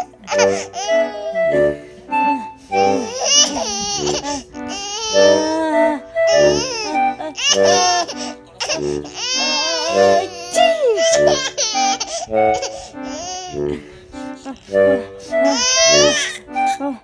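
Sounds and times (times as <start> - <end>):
baby laughing: 0.0 - 1.9, 2.5 - 17.0
background music with steady beat: 0.0 - 17.0.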